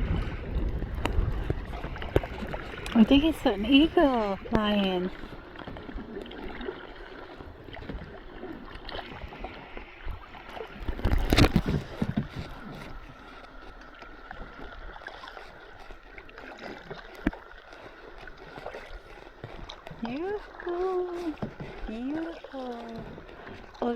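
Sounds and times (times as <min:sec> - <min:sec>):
water splashing against a kayak: 0:00.0 - 0:23.9.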